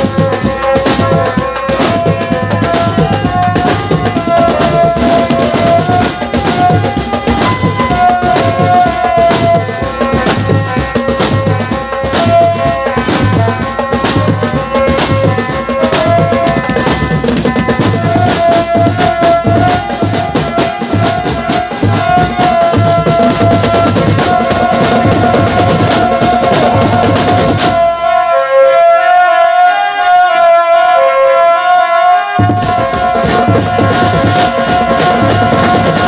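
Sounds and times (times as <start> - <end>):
drums and percussion beat: 0.0 - 28.3, 32.4 - 36.0
held melody line: 0.0 - 28.8, 31.8 - 36.0.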